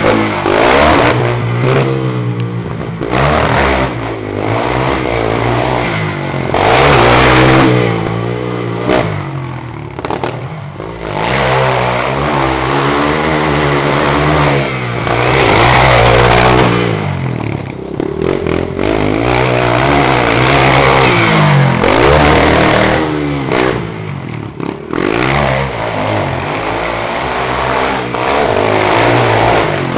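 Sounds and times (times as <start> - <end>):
motorbike engine revving: 0.0 - 29.9.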